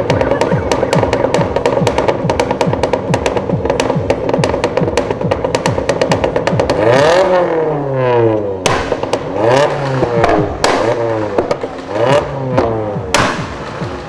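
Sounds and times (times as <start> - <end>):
car engine revving hard: 0.0 - 13.9
sharp exhaust cracks: 0.0 - 14.0.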